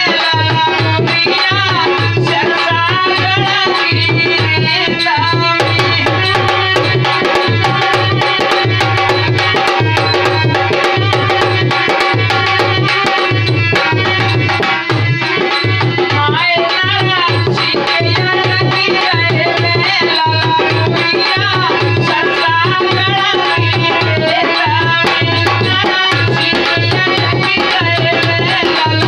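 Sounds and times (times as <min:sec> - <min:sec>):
dholak drum rhythm: 0:00.0 - 0:29.0
harmonium melody: 0:00.0 - 0:29.0
person singing: 0:00.0 - 0:29.0.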